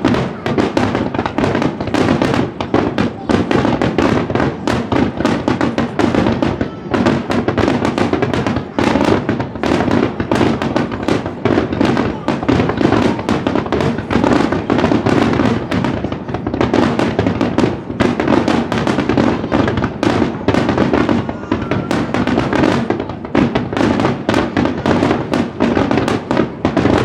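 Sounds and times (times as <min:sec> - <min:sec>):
fireworks bursting and crackling: 0:00.0 - 0:27.0.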